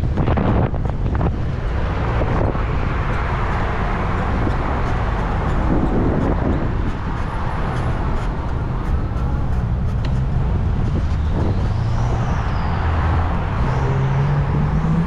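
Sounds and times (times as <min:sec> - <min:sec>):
wind buffeting microphone: 0:00.0 - 0:15.0
road traffic hiss: 0:01.0 - 0:15.0.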